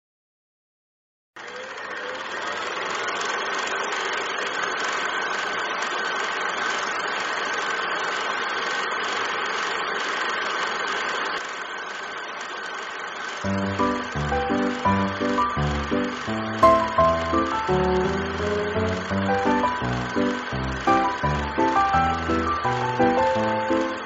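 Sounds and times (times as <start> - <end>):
film projector whirring: 1.4 - 24.0.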